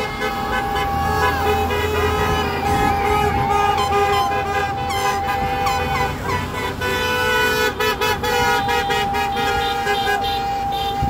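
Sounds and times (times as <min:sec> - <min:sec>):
car and truck horns honking: 0:00.0 - 0:11.0
traffic passing: 0:00.0 - 0:11.0.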